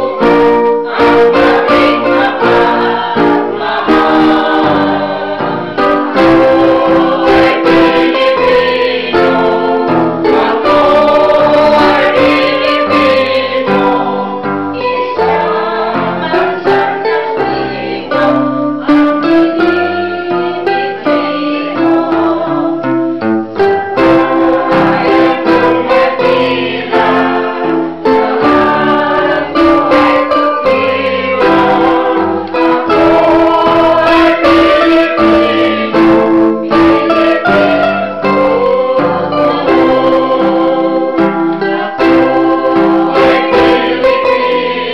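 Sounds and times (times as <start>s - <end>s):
women singing in chorus: 0.0s - 22.8s, 24.0s - 44.9s
electronic keyboard: 0.0s - 44.9s.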